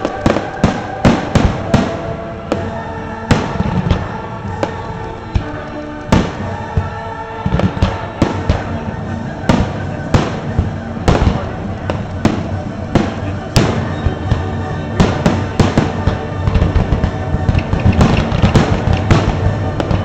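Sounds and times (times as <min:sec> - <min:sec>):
fireworks bursting in sharp bangs: 0:00.0 - 0:20.0
music: 0:00.0 - 0:20.0.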